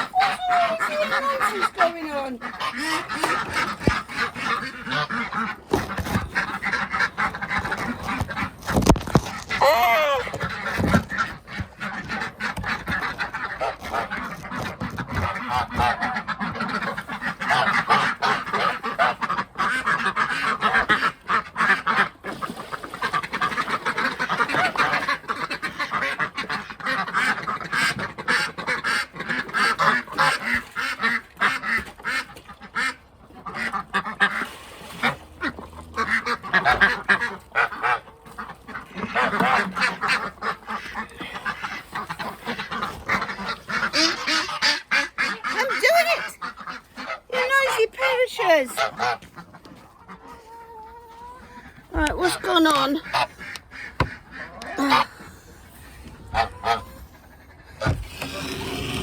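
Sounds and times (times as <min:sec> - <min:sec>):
geese honking: 0:00.0 - 0:08.7, 0:09.3 - 0:22.2, 0:22.9 - 0:59.0
ducks quacking loudly: 0:00.0 - 0:59.0.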